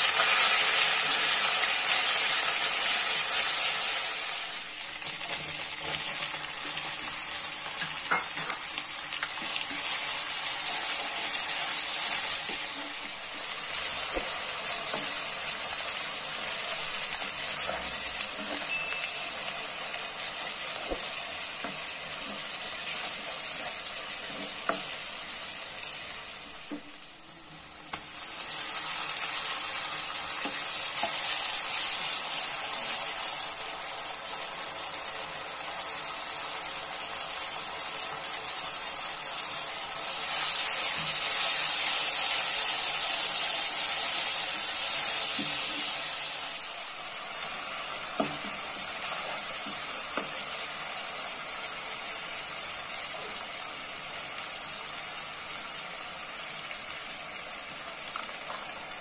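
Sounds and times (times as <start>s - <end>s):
onion sizzling in oil: 0.0s - 59.0s.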